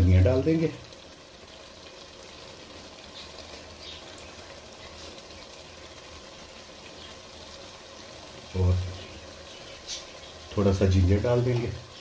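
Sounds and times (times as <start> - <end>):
lentils simmering and bubbling: 0.0 - 12.0.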